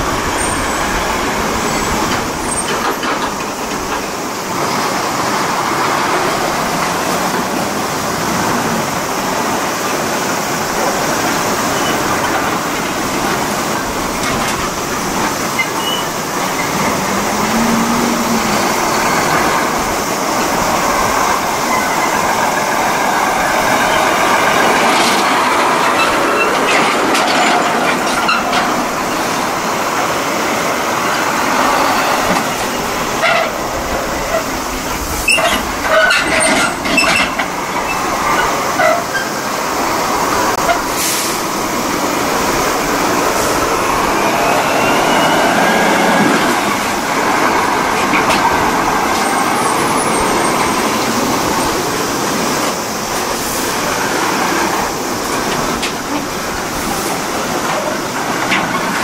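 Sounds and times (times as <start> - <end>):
trucks driving past: 0.0 - 59.0.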